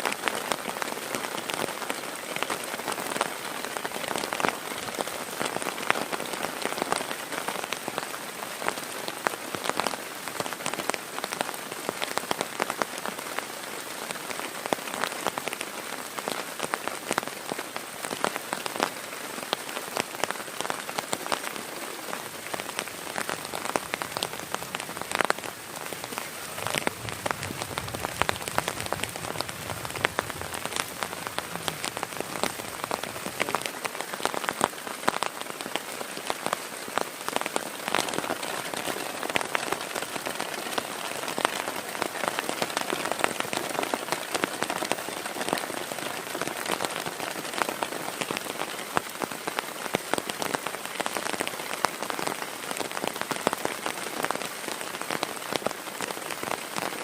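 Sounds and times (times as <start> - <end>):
heavy rain: 0.0 - 57.0
raindrops hitting a surface: 0.0 - 57.0.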